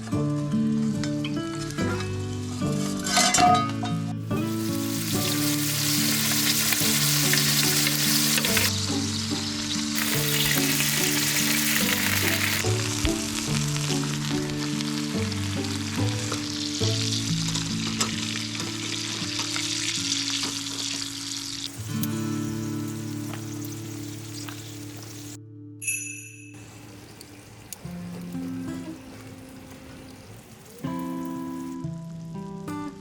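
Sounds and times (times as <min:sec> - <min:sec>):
soft music with low notes: 0:00.0 - 0:26.0, 0:27.7 - 0:33.0
food sizzling in a pan: 0:04.2 - 0:25.4, 0:26.6 - 0:31.9.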